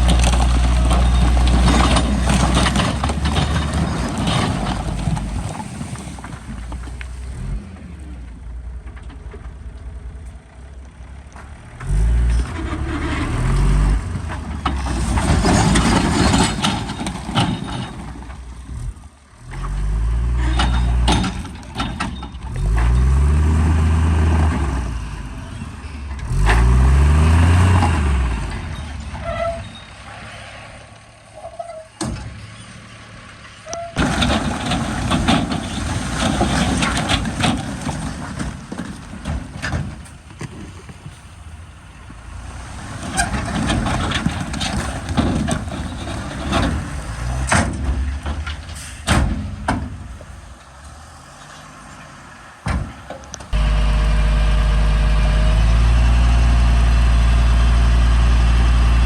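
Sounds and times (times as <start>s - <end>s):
rattling and scraping: 0.0s - 7.6s, 11.4s - 32.9s, 33.6s - 53.8s
diesel machinery engines rumbling: 0.0s - 59.0s
loud steady diesel engine: 0.0s - 59.0s.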